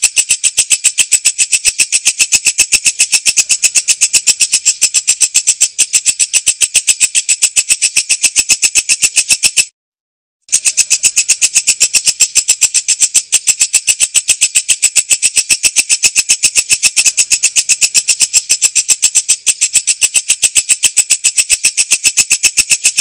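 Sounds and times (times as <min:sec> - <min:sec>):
katydid chirping: 0:00.0 - 0:09.7, 0:10.5 - 0:23.0.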